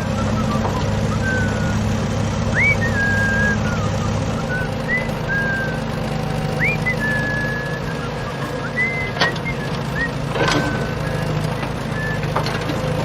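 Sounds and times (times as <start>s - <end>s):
person whistling: 0.0s - 1.9s, 2.5s - 5.8s, 6.6s - 12.4s
low engine hum: 0.0s - 13.0s.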